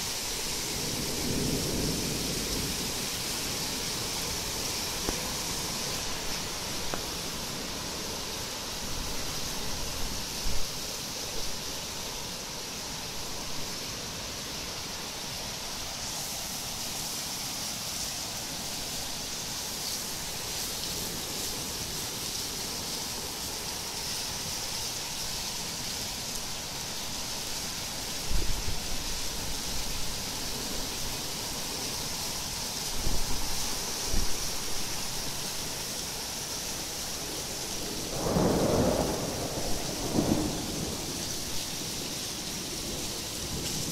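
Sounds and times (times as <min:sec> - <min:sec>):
torrential rain pouring: 0:00.0 - 0:43.9.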